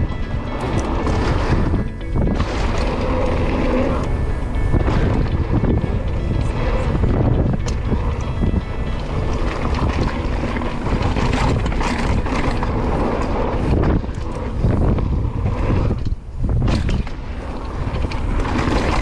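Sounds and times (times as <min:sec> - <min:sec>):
bike rattling and knocking: 0:00.0 - 0:19.0
wind rushing over microphone: 0:00.0 - 0:19.0.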